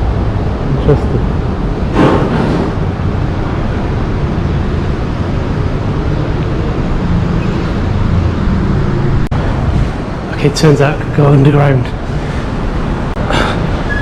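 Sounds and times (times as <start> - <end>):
busy road traffic: 0.0 - 14.0.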